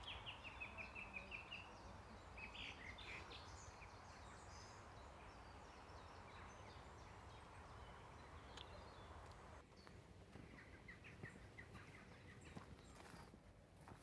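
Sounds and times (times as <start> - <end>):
distant small birds chirping: 0.0 - 13.4.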